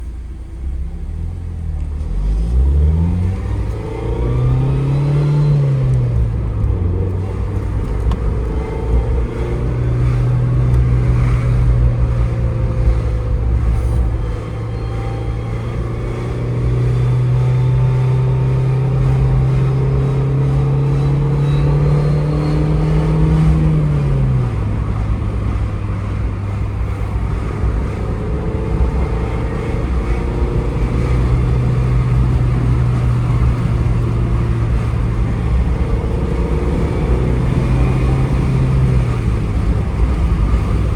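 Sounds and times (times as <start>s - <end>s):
abnormal engine noise: 0.0s - 40.9s
car engine accelerating: 0.0s - 40.9s.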